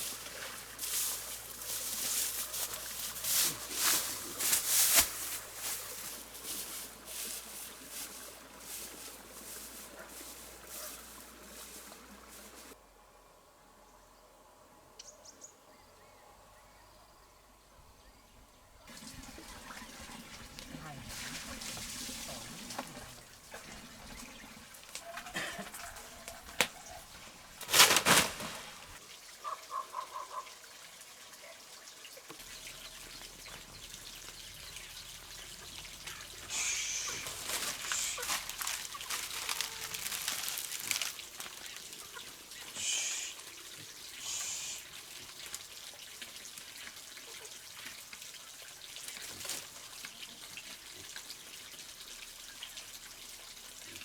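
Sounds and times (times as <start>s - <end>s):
water pouring and trickling: 0.0s - 12.8s, 18.9s - 54.0s.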